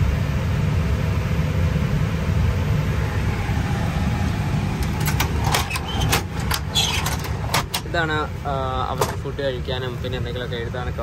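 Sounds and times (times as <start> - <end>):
cockpit avionics hum and hiss: 0.0 - 11.0.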